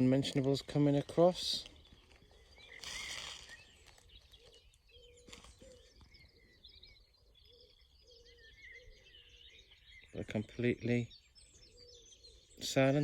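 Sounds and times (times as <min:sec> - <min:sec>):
birds chirping and warbling: 0:00.0 - 0:13.0.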